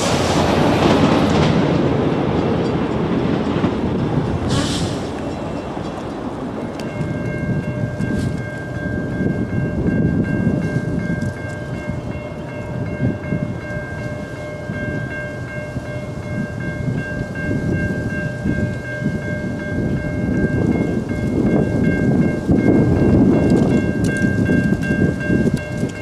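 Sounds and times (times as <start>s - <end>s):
crossing warning bell ringing: 0.0s - 26.0s
passenger train rumbling: 0.0s - 26.0s.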